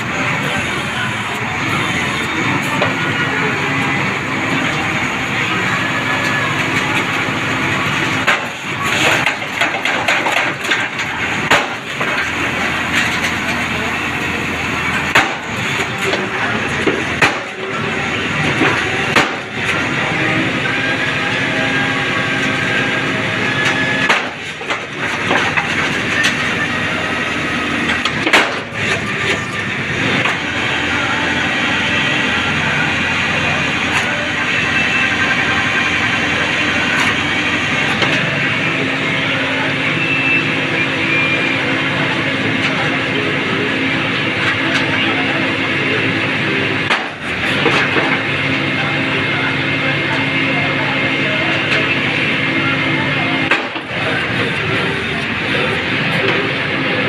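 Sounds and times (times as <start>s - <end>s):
drilling rig running: 0.0s - 57.0s.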